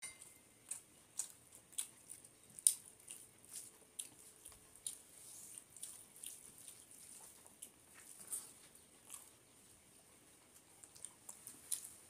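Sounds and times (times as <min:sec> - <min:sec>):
fingers squishing wet rice: 0:00.1 - 0:09.8.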